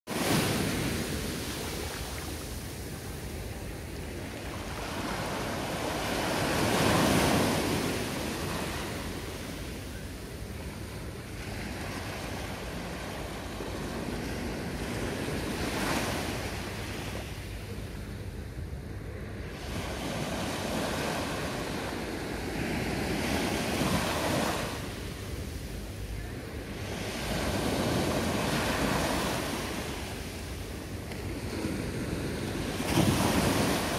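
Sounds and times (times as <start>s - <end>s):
small waves breaking on beach: 0.1s - 17.8s, 19.2s - 33.9s.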